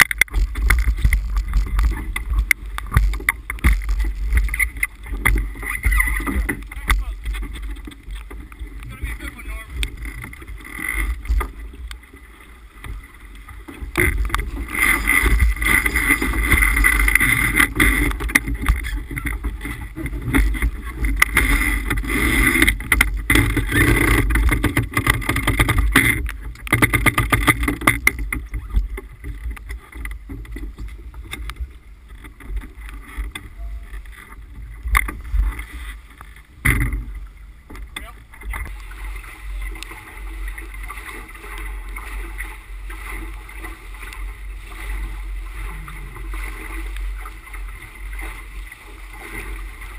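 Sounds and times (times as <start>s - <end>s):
water rushing past a boat: 0.0s - 49.9s.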